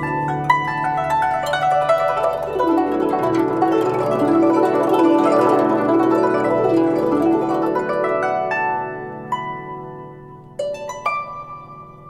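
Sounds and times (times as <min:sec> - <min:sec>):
zither plucked notes: 0:00.0 - 0:12.0.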